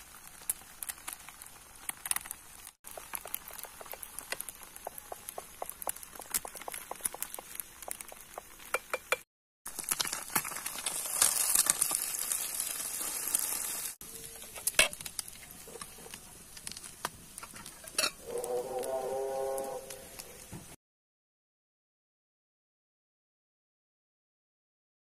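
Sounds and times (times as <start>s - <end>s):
egg sizzling in oil: 0.0s - 20.6s
oil crackles and pops: 0.0s - 20.7s.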